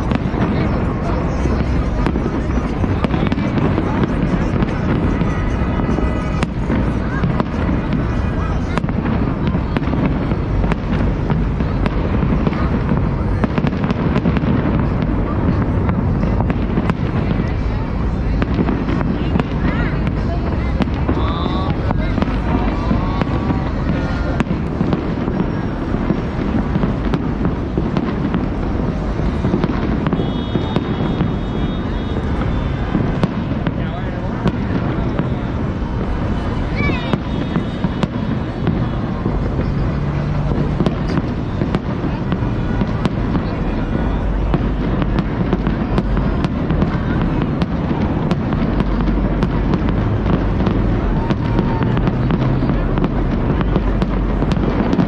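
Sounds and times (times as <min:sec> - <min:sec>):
fireworks explosions rumbling: 0:00.0 - 0:55.0
sharp fireworks cracks: 0:00.0 - 0:55.0.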